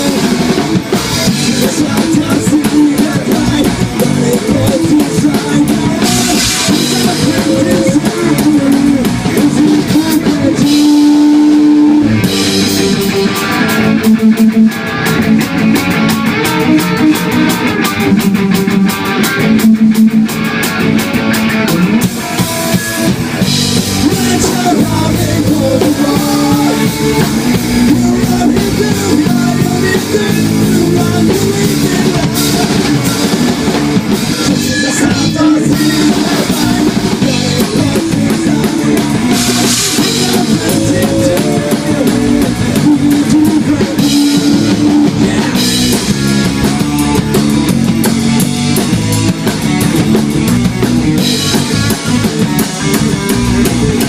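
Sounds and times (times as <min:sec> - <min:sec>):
rock band playing punk: 0:00.0 - 0:54.0.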